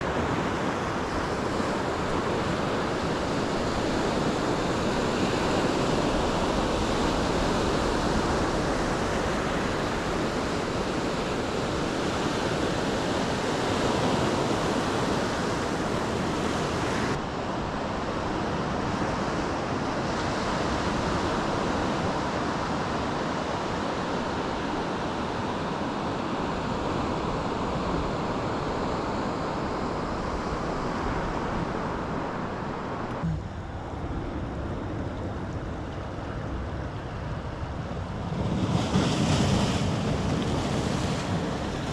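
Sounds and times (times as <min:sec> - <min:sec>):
waves washing onto beach: 0:00.0 - 0:41.9
wind: 0:00.0 - 0:41.9.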